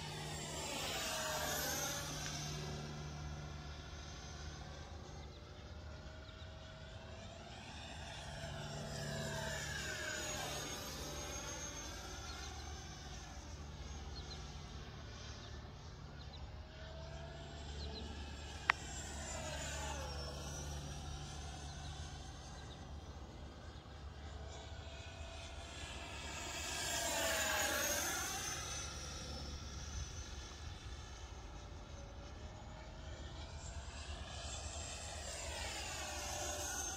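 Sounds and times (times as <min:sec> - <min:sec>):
electric ducted fans whining: 0:00.0 - 0:36.9.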